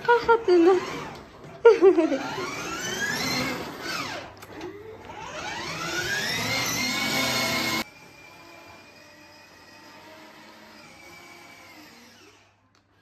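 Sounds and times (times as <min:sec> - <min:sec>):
toy car electric motor whining: 0:00.5 - 0:01.3, 0:02.0 - 0:12.6.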